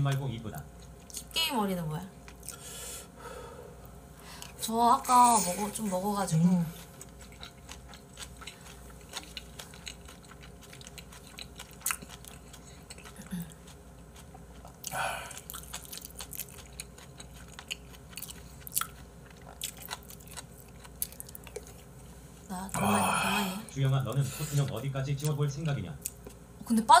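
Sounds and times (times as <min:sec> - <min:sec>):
man chewing food: 0:00.0 - 0:01.3, 0:02.2 - 0:04.6, 0:05.3 - 0:25.4, 0:26.0 - 0:26.5.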